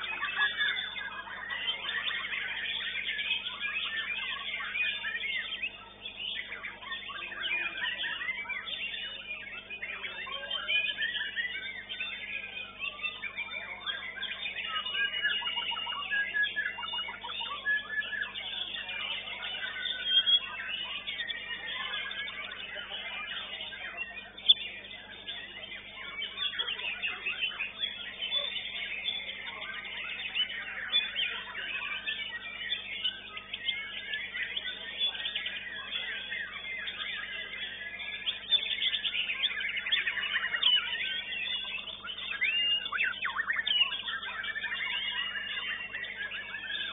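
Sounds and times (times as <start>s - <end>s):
songbirds singing in chorus: 0.0s - 46.9s.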